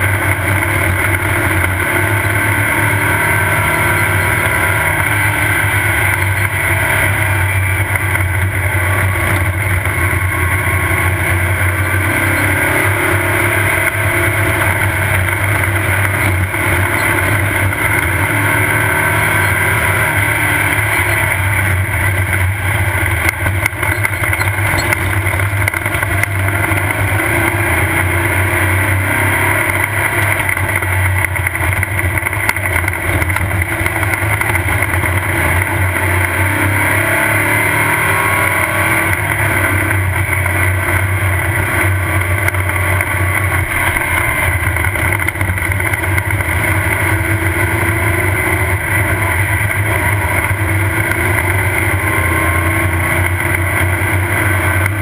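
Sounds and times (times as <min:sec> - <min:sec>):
race car engine under load: 0:00.0 - 0:55.0
rumble of tires and chassis: 0:00.0 - 0:55.0.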